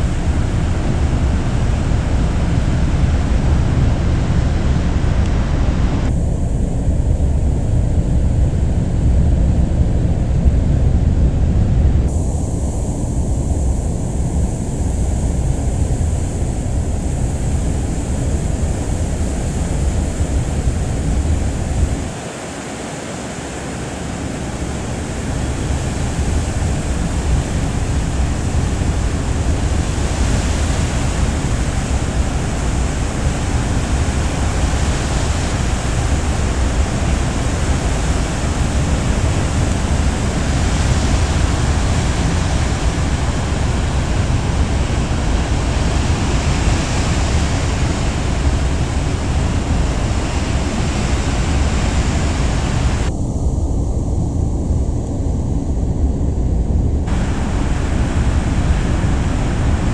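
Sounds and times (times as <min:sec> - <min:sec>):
sea rushing: 0:00.0 - 0:10.1, 0:12.1 - 0:53.2, 0:56.7 - 0:59.9
wind rumbling on microphone: 0:00.0 - 0:59.9.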